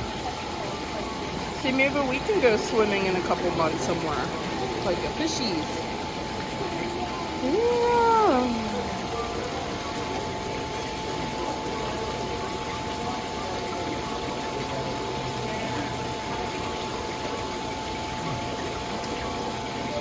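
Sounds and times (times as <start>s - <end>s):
water fountain splashing: 0.0s - 20.0s.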